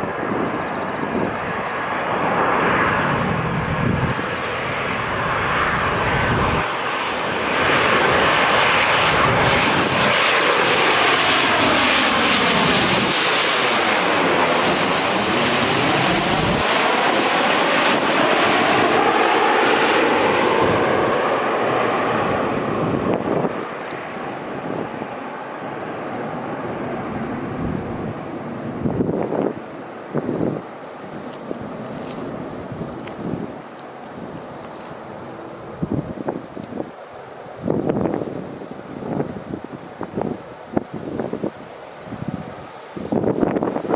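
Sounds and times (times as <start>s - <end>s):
high jet whine falling in pitch: 0.0s - 43.9s
jet engine rumble: 0.0s - 43.9s.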